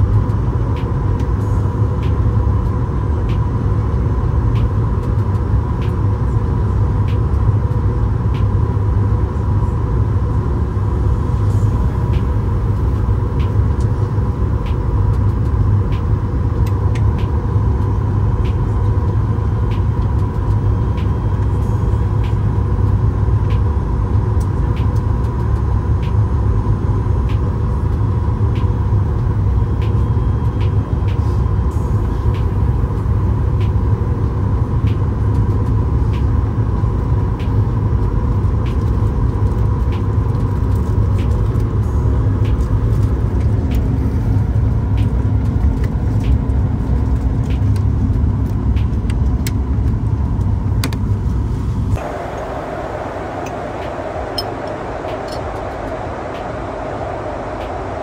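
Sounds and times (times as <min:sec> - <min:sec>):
steady whine: 0:00.0 - 0:49.2, 0:49.8 - 0:58.0
airplane cabin low rumble: 0:00.0 - 0:58.0.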